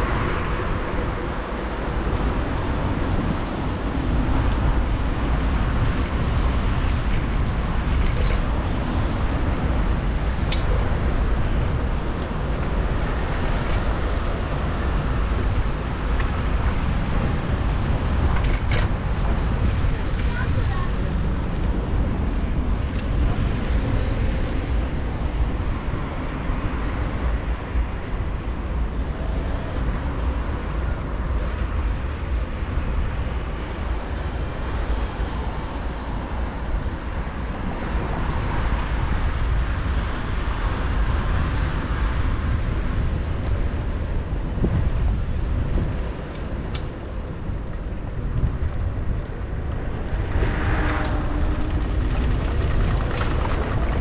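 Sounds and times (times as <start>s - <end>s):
city traffic: 0.0s - 54.0s
wind rushing over microphone: 0.0s - 54.0s.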